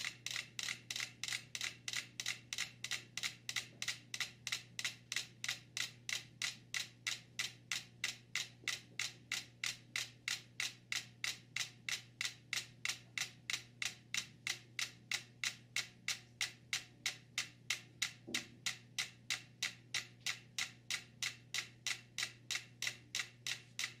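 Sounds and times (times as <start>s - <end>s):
metronomes ticking: 0.0s - 24.0s.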